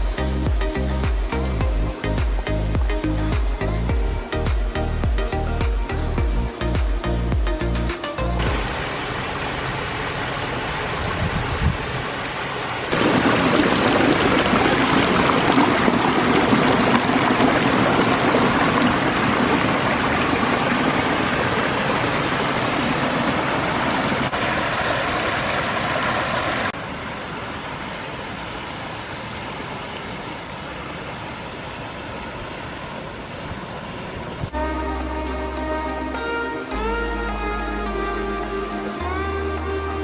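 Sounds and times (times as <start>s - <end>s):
waterfall rushing: 0.0s - 33.2s, 34.5s - 40.0s.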